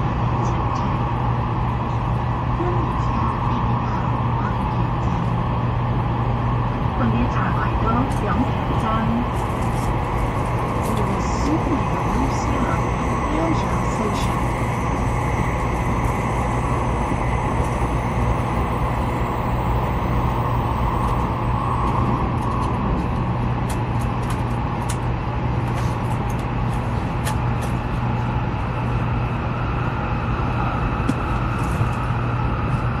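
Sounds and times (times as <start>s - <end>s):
train running inside passenger car: 0.0s - 33.0s.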